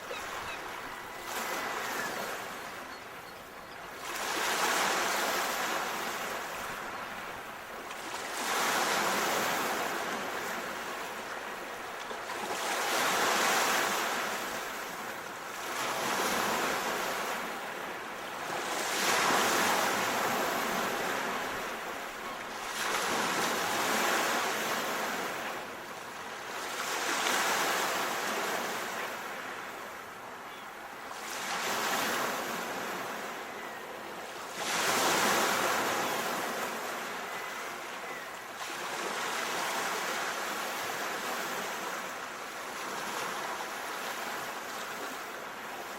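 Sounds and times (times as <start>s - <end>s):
sea waves on shore: 0.0s - 45.9s.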